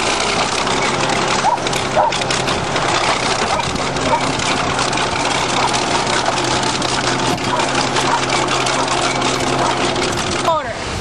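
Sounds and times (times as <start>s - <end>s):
rapid rattle: 0.0s - 10.7s
bulldozer diesel engine running: 0.0s - 11.0s.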